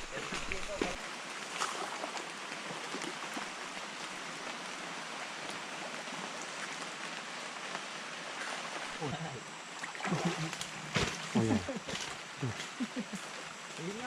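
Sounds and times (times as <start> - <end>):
steady water noise: 0.0 - 14.0.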